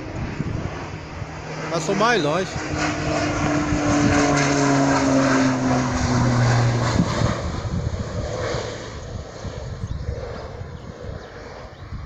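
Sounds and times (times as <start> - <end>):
propeller airplane flying past: 0.0 - 12.0.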